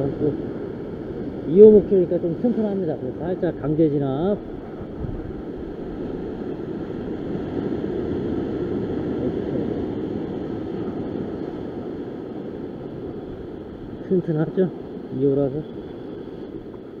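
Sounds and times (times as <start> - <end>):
surf breaking over rocks: 0.0 - 17.0
wind on microphone: 0.0 - 17.0.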